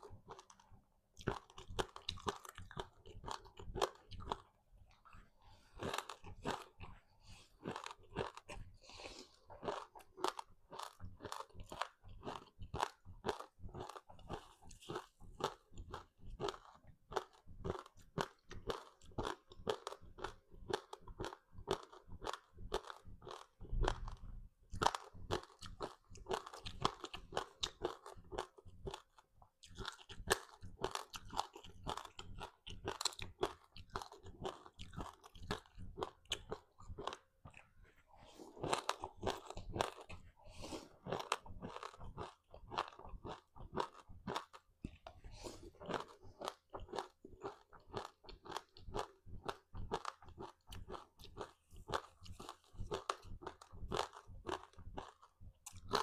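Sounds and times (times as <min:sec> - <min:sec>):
person chewing crunchy snack: 0:00.0 - 0:56.0.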